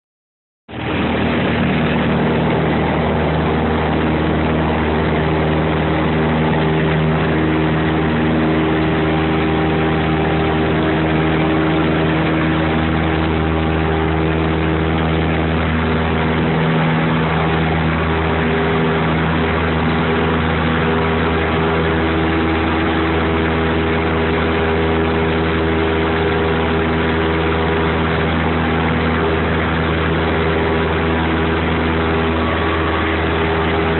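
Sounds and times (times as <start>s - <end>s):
airplane engine drone: 0.7s - 33.9s.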